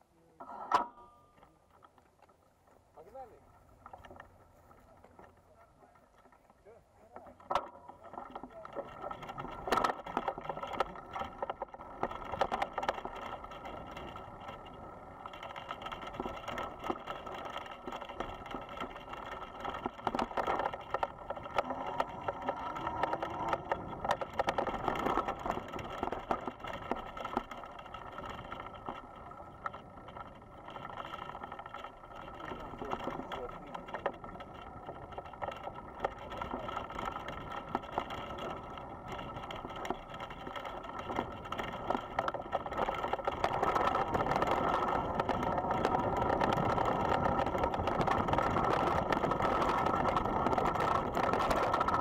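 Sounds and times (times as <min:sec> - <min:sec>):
bicycle knocking and rattling: 0:00.0 - 0:52.0
wind and tyres rumbling: 0:00.0 - 0:52.0.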